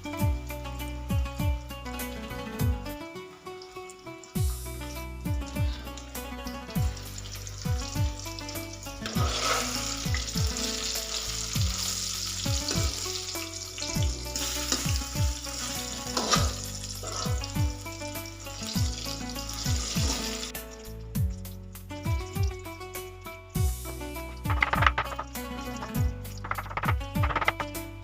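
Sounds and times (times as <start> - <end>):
food frying in hot oil: 0.0 - 27.7
background music with gliding bass: 0.0 - 28.0.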